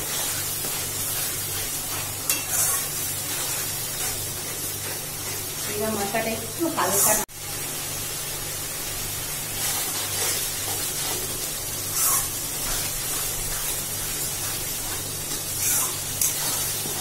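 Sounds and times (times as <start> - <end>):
spatula scraping and stirring: 0.0 - 6.2, 9.5 - 17.0
spice paste sizzling in oil: 0.0 - 17.0.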